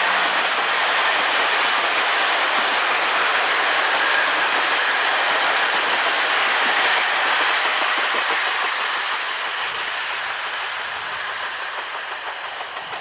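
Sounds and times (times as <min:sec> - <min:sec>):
diesel train rumbling past: 0:00.0 - 0:13.0.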